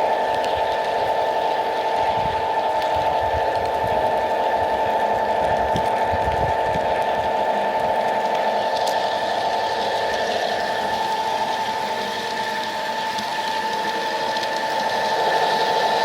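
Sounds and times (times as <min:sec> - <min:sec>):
model train mechanical whine: 0:00.0 - 0:16.0.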